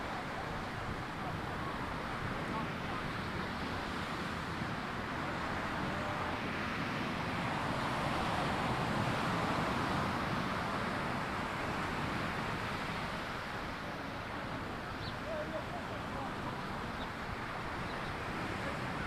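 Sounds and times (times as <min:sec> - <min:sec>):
ocean surf on a beach: 0:00.0 - 0:19.0.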